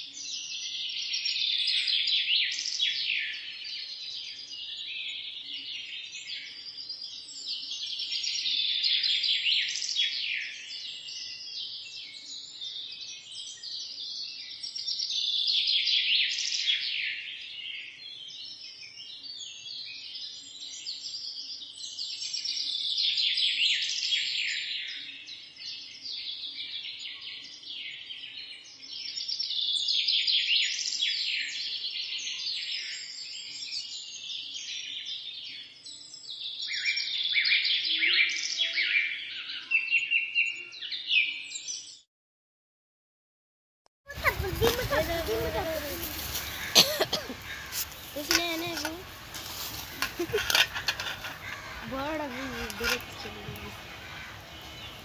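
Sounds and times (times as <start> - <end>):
small birds chirping chorus: 0.0 - 42.1, 44.1 - 55.0.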